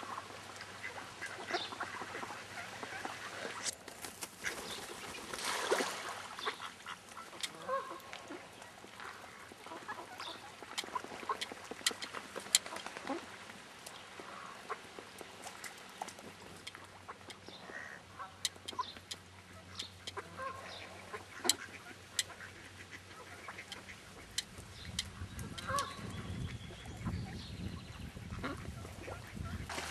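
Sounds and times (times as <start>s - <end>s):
ducks quacking softly: 0.0s - 3.7s, 6.2s - 13.4s, 16.5s - 29.7s.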